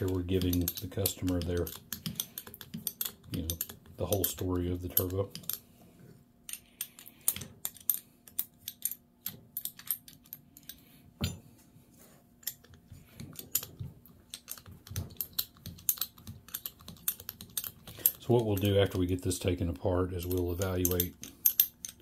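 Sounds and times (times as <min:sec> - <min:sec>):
light metallic clicks and clinks: 0:00.0 - 0:05.7, 0:06.5 - 0:11.4, 0:12.4 - 0:22.0.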